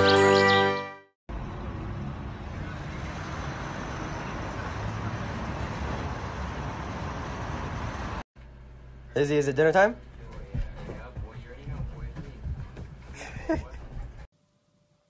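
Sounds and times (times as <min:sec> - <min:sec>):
hum of city traffic: 0:01.3 - 0:14.3.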